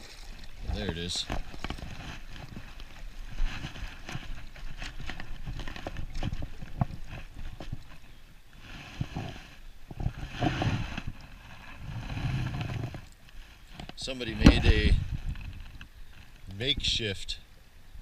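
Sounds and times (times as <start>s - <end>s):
water swishing and splashing: 0.0s - 16.4s.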